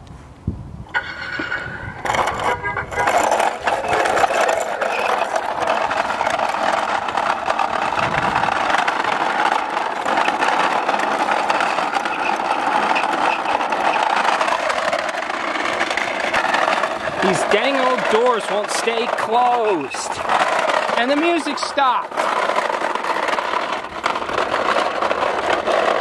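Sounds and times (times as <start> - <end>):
toy wheels scraping on concrete: 0.9 - 26.0.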